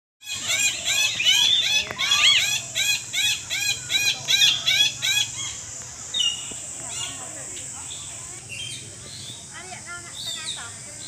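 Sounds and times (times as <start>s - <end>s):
parakeets chirping: 0.2s - 11.0s.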